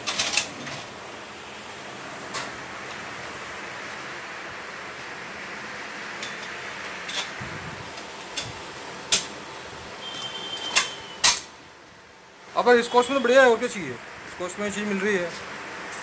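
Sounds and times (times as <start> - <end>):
fan running: 0.0 - 16.0.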